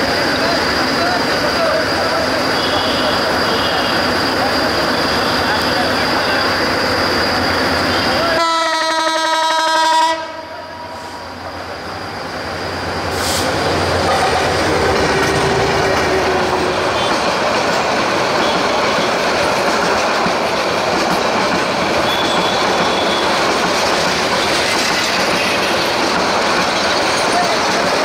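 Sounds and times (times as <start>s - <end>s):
train wheels rumbling and rattling: 0.0s - 8.8s, 10.3s - 28.0s
diesel locomotive engine drone: 0.0s - 28.0s.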